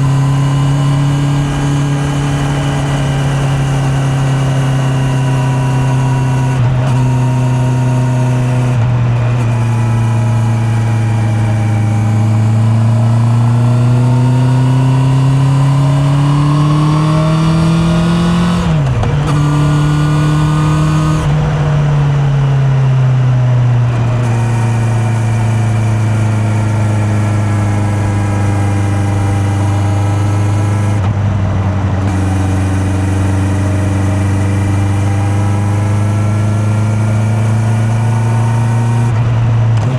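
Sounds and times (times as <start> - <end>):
muffled motorcycle engine revving: 0.0 - 39.9.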